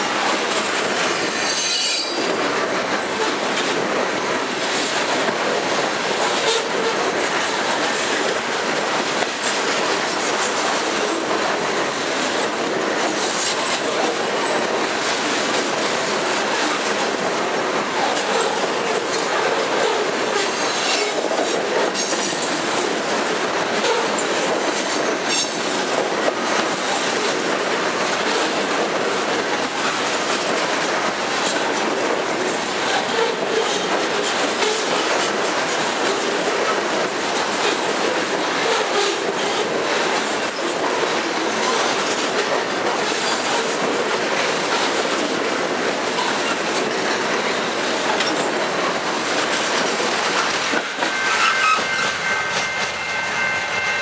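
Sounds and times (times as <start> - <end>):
train wheels rattling on rails: 0.0 - 54.0.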